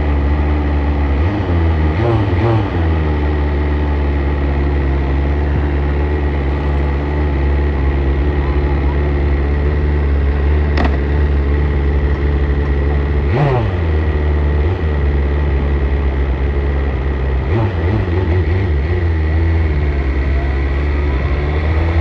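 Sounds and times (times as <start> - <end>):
motorcycle engine idling: 2.7 - 22.0.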